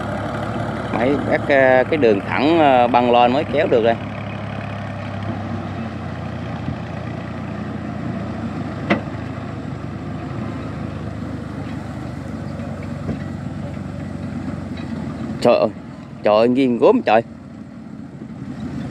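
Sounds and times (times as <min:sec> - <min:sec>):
tractor engine running: 0:00.0 - 0:18.9.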